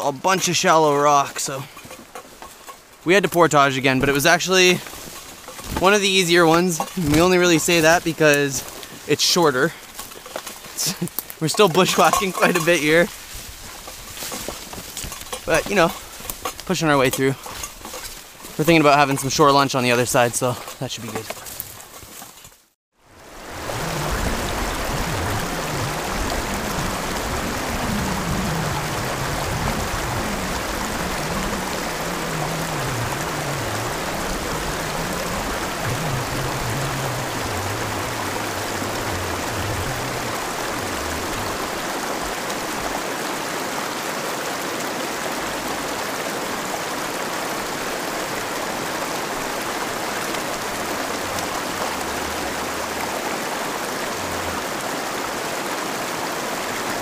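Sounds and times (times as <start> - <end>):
river rapids rushing over rocks: 4.0 - 21.5, 23.1 - 57.0.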